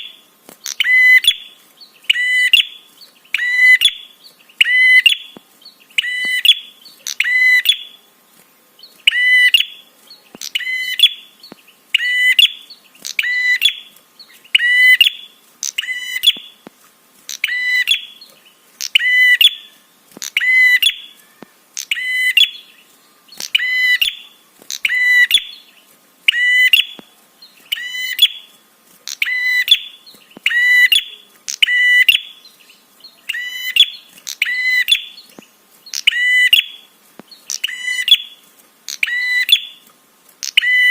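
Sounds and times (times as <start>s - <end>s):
bird sharp repeated call: 0.0s - 8.0s, 9.1s - 11.4s, 12.0s - 16.6s, 17.3s - 18.2s, 18.8s - 22.7s, 23.3s - 25.7s, 26.3s - 27.1s, 27.7s - 28.5s, 29.1s - 32.5s, 33.2s - 35.3s, 35.9s - 36.9s, 37.5s - 39.8s, 40.4s - 40.9s.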